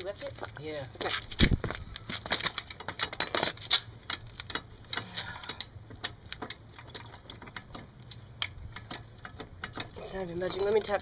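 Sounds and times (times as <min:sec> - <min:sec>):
metallic tapping on axle: 0:02.1 - 0:11.0.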